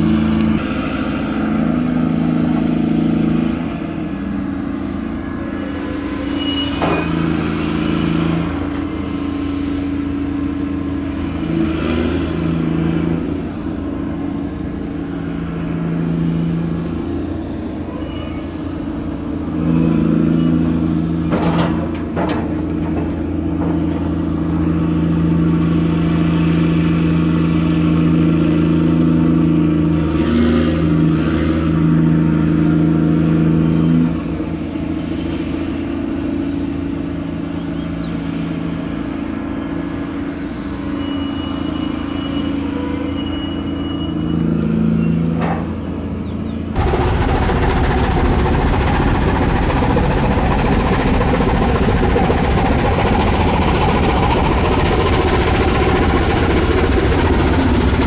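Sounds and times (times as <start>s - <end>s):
crane engine hum: 0.0s - 58.0s.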